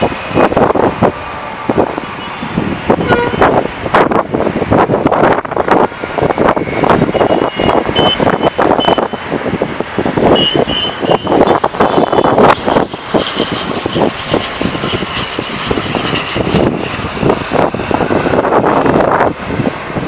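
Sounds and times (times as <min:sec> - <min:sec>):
turboprop airliner engine noise: 0:00.0 - 0:20.0
wind buffeting microphone: 0:00.0 - 0:20.0.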